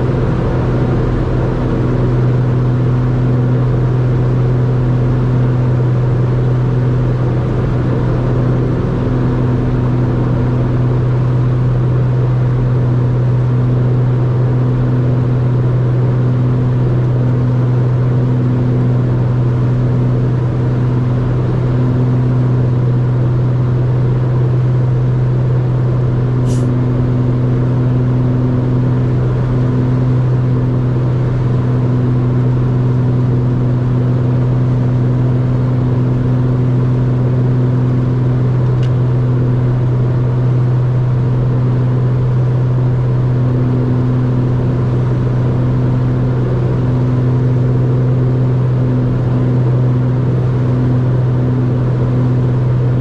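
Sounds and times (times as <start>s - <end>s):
propeller aircraft engines droning: 0.0s - 53.0s.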